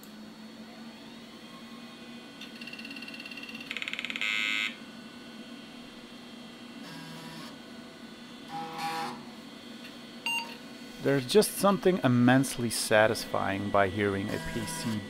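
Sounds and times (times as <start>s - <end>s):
computer fan hum: 0.0s - 15.0s
floppy drive buzz: 2.2s - 15.0s.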